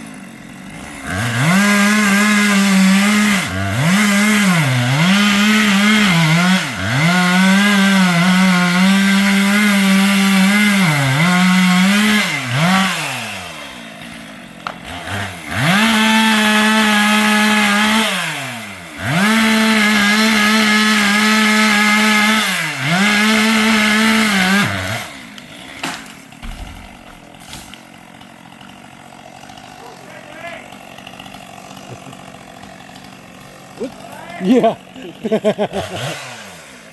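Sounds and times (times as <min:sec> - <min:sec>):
chainsaw revving: 0:00.0 - 0:36.9.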